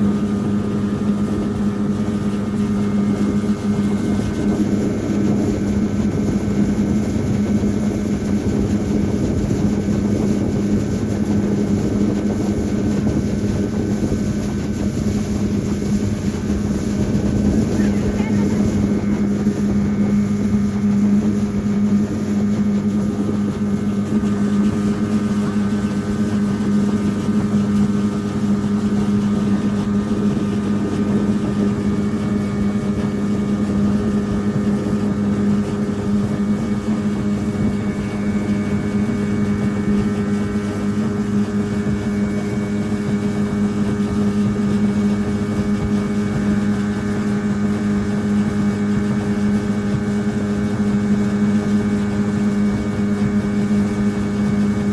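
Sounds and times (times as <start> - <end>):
motorboat engine drone: 0.0 - 54.9
water and wind hiss: 0.0 - 54.9.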